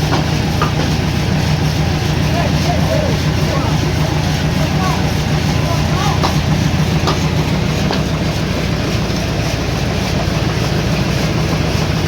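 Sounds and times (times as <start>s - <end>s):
sawmill machinery rumbling: 0.0s - 12.0s.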